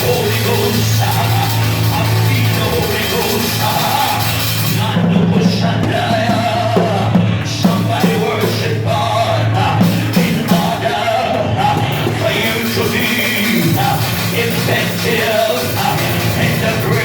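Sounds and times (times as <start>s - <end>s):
live band with bass and beat: 0.0s - 17.0s
people singing: 0.0s - 17.0s.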